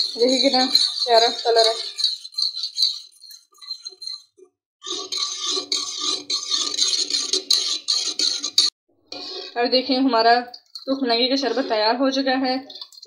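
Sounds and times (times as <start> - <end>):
metal spoon clinking in a pot: 0.0 - 9.6, 10.5 - 11.7.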